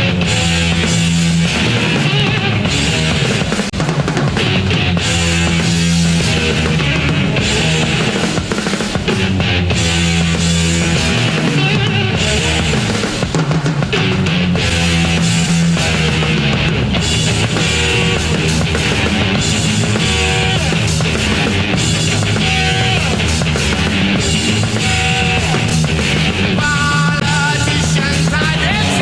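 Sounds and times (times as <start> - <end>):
distorted guitars: 0.0 - 29.0
drum kit: 0.0 - 29.0
punk rock music: 0.0 - 29.0.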